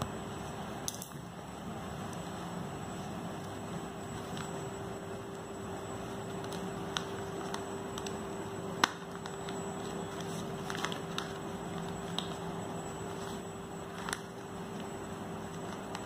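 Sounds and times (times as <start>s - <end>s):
steady low hum: 0.0s - 16.0s
newspaper rustling: 2.2s - 16.0s.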